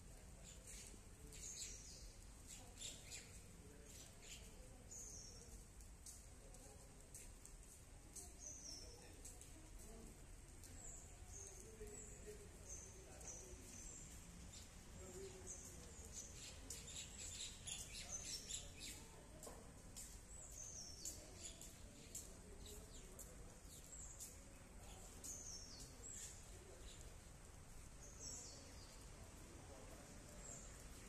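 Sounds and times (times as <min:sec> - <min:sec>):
songbird chirps: 0:00.0 - 0:31.0.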